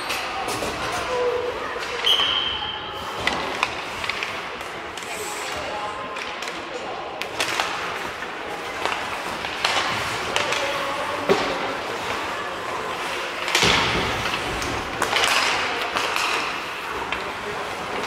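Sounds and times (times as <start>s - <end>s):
hockey sticks clacking: 0.0s - 18.0s
skates scraping ice: 3.0s - 18.0s.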